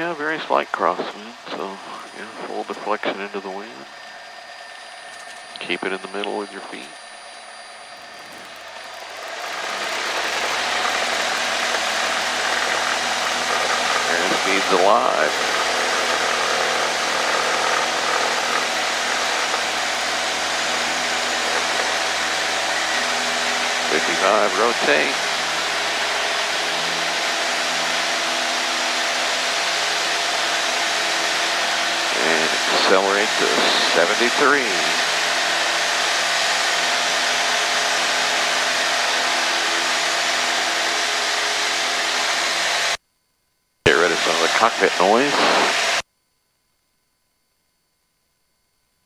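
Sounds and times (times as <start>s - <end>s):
propeller plane engine at full power: 0.0s - 43.0s, 43.9s - 46.0s.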